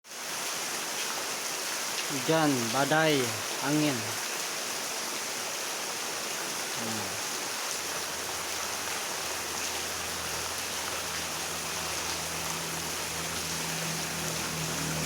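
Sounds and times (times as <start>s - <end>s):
heavy rain hissing: 0.1s - 15.0s.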